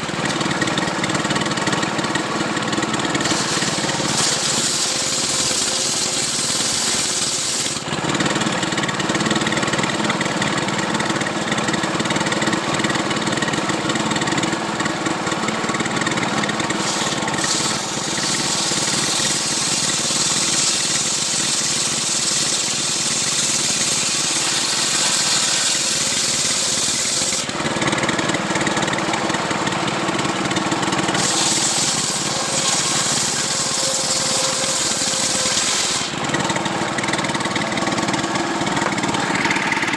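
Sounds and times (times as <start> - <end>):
chainsaw cutting wood: 0.2 - 10.4, 15.7 - 39.9.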